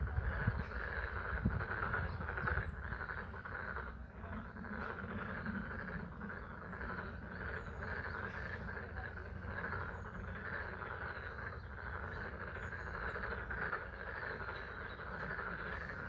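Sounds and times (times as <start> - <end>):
frogs calling: 0.0 - 16.0.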